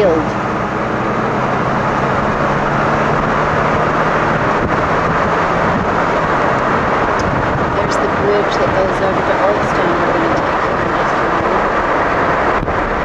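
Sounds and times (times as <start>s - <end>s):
car road and engine noise: 0.0s - 13.0s
wind rushing over microphone: 0.0s - 13.0s.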